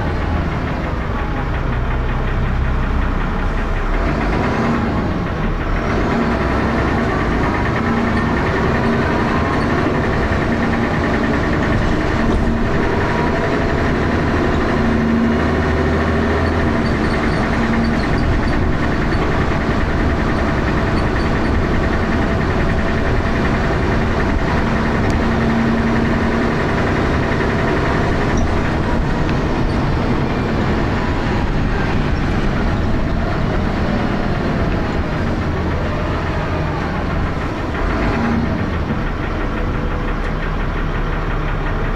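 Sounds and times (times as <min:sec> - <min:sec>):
bus diesel engine knocking: 0:00.0 - 0:41.9.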